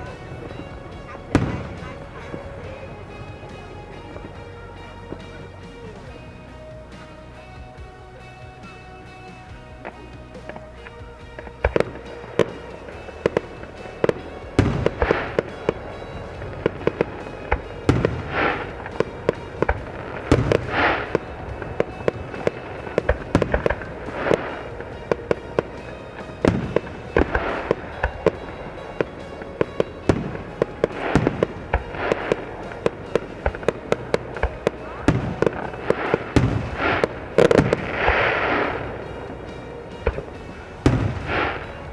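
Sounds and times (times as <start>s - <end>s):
fireworks bangs and pops: 0.0s - 41.9s.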